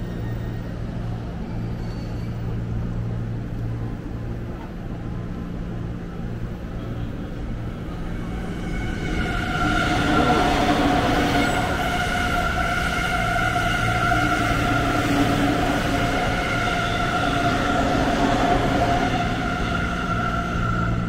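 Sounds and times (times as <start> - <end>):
train low rumble: 0.0 - 21.0
train whine: 0.0 - 21.0.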